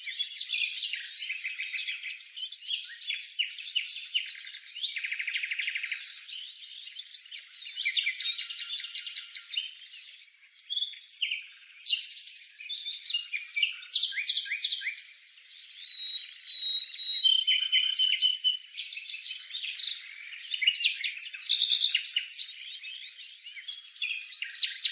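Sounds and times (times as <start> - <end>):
bird chirps trills and whistles: 0.0 - 24.9.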